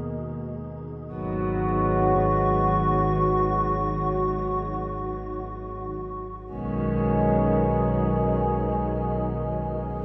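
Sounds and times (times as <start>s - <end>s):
sustained ambient chord: 0.0s - 10.0s.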